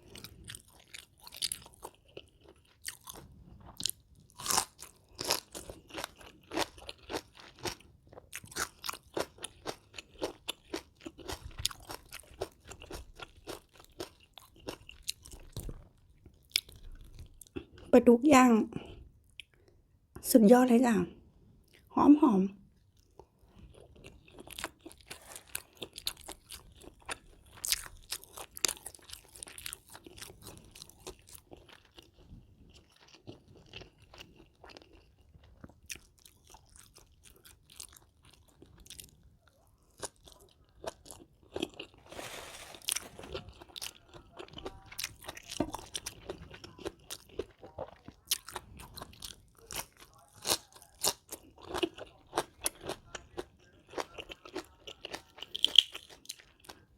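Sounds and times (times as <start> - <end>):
crunching and chewing: 0.0 - 17.9, 22.8 - 56.9.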